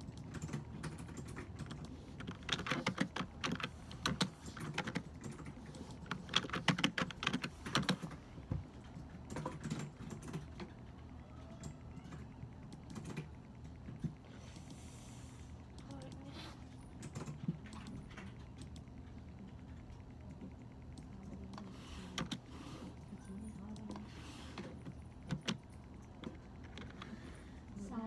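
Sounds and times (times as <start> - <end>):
computer keyboard typing: 0.0 - 28.0
low room hum: 0.0 - 28.0.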